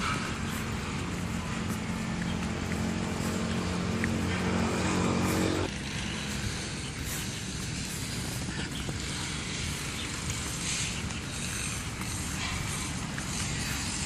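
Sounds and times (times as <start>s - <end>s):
motor engine humming: 0.0s - 14.0s.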